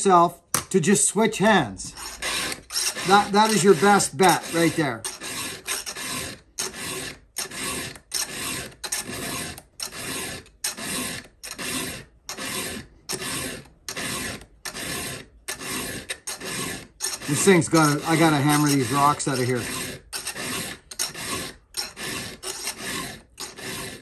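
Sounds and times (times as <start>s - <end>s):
round file stroking chain tooth: 1.4s - 24.0s.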